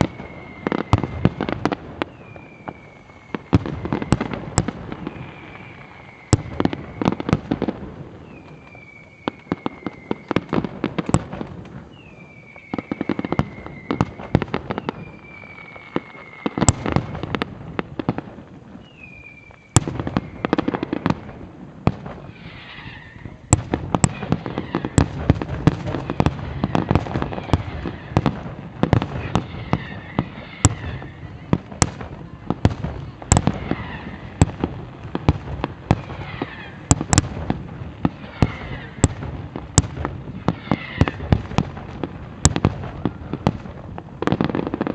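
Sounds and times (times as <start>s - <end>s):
falling firework whistles: 0.0s - 17.9s, 18.7s - 44.9s
fireworks bangs and crackling: 0.0s - 44.9s.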